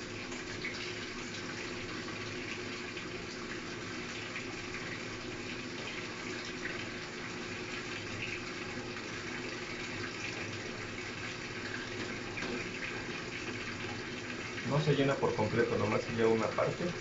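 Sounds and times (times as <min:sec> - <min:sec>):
water rushing into washer tub: 0:00.0 - 0:17.0.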